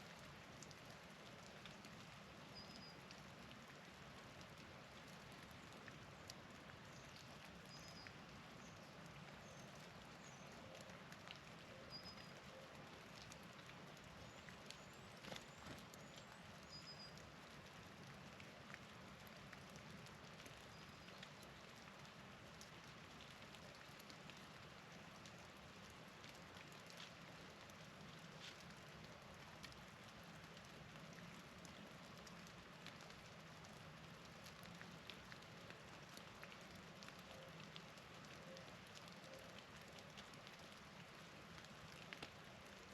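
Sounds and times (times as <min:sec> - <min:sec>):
light ticks and patter: 0:00.0 - 0:42.9
soft outdoor hiss: 0:00.0 - 0:42.9.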